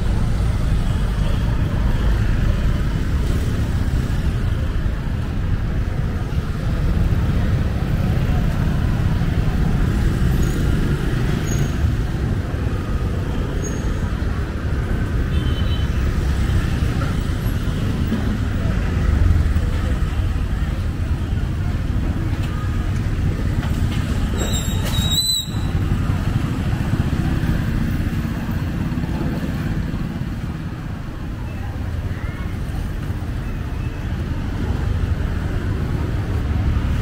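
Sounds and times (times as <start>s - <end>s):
motorbike and scooter engines passing: 0.0s - 37.0s.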